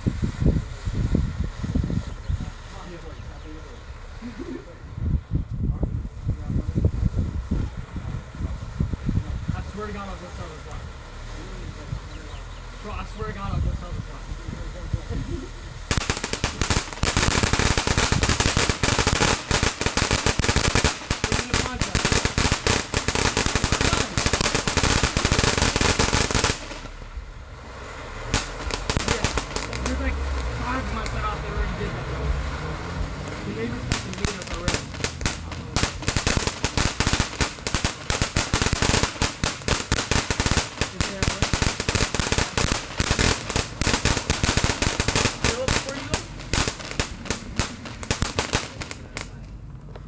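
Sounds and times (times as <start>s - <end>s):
firework crackling: 0.0s - 50.0s.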